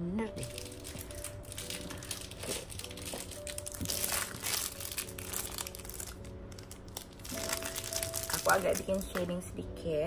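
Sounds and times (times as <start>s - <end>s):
soft background music: 0.0s - 10.0s
rustling handling noises: 0.4s - 9.4s.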